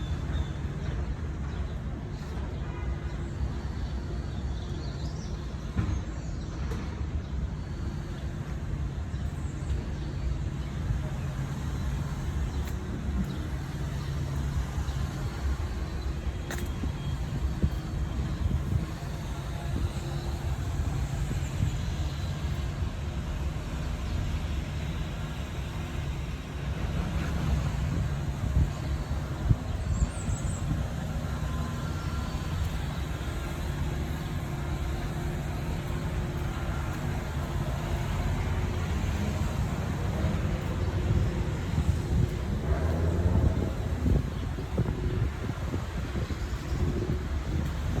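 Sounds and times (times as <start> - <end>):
city road traffic rumble: 0.0 - 48.0.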